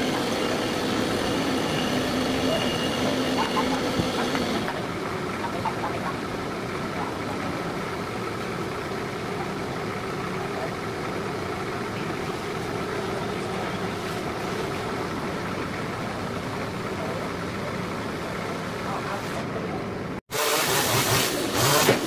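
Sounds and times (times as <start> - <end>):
engine idling: 0.0 - 21.8.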